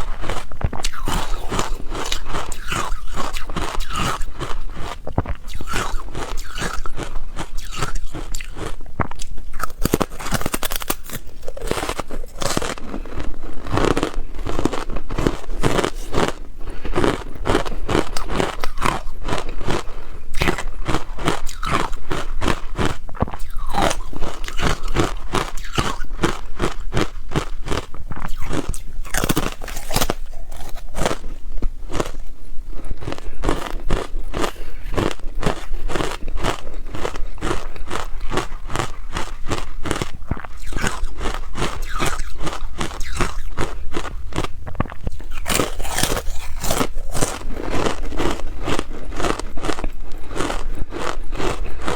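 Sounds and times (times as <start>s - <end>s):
ice crunching while chewed: 0.0s - 51.9s.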